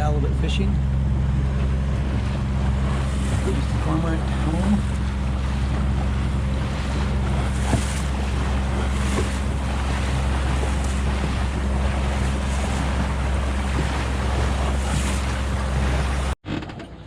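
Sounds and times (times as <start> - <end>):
boat motor humming: 0.0 - 16.4
water rushing past hull: 0.0 - 16.4
wind on microphone: 0.9 - 16.3.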